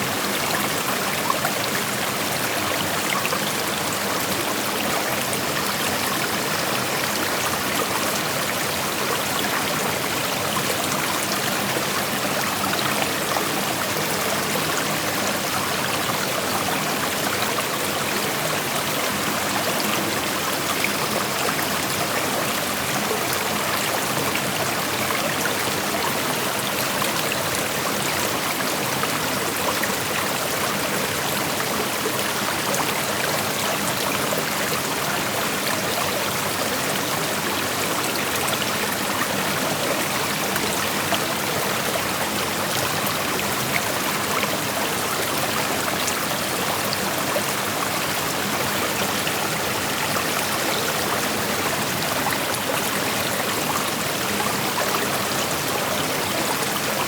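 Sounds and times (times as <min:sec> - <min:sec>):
creek water splashing over rocks: 0:00.0 - 0:57.0.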